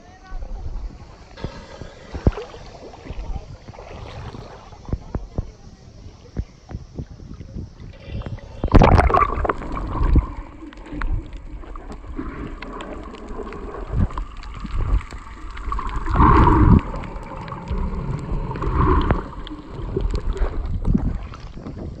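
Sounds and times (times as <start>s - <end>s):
muffled underwater water gurgling: 0.0s - 22.0s
water bubbling surges: 1.0s - 5.1s, 7.8s - 22.0s.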